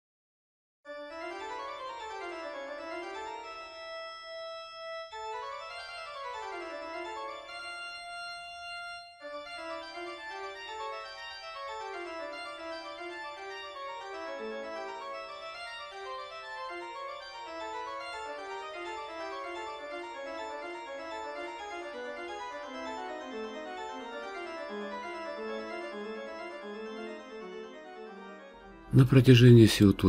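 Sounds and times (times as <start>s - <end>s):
keyboard arpeggio music: 0.9s - 30.0s.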